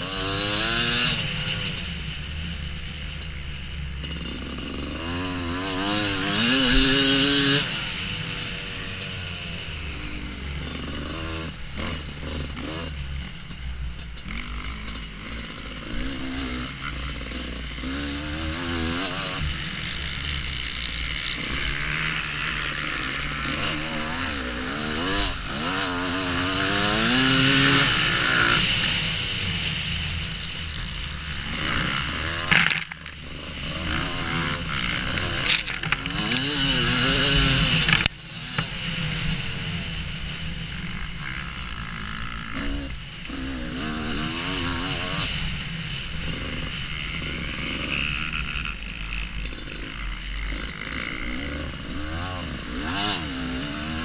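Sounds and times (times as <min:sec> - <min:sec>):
two-stroke motorcycle revving: 0:00.0 - 0:54.0.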